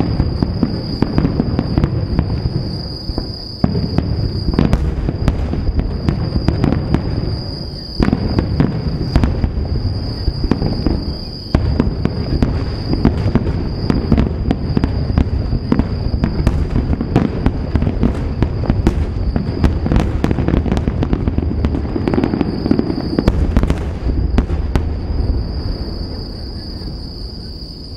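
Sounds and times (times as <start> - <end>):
fireworks booming and crackling: 0.0 - 27.9
high insect trill: 0.0 - 27.9.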